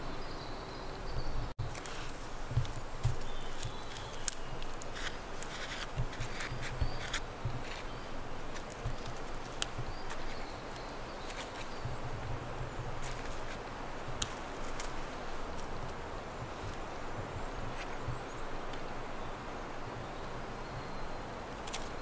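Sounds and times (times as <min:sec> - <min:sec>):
twigs crackling and snapping: 0:01.6 - 0:20.4, 0:21.5 - 0:22.0.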